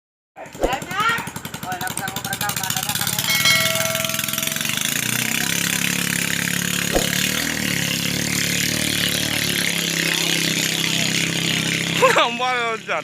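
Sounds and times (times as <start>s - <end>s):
model boat engine running: 0.8s - 13.0s.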